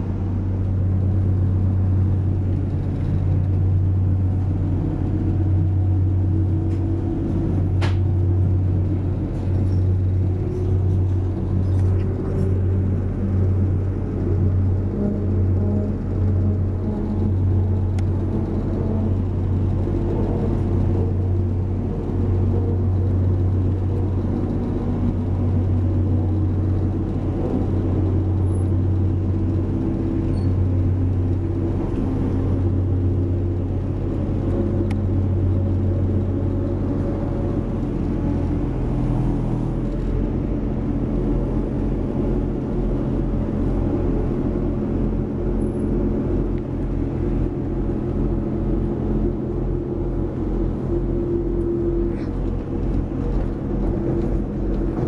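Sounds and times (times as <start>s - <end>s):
train engine hum: 0.0s - 55.0s
wheel-on-rail rumble: 0.0s - 55.0s.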